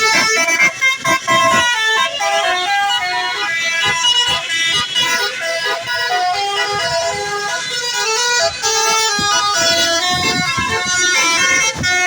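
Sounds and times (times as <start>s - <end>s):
tuned air horns playing a tune: 0.0s - 12.0s.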